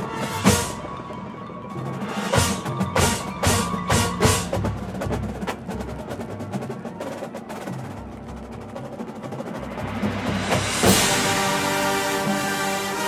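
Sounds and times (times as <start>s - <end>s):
drum corps percussion: 0.0s - 13.0s.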